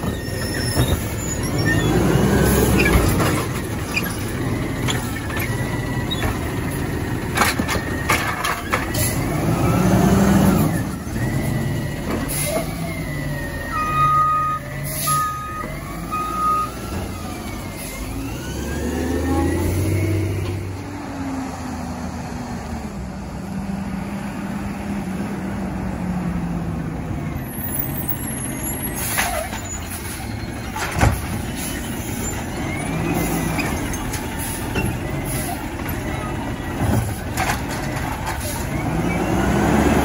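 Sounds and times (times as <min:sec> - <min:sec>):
truck engine revving: 0:00.0 - 0:40.0.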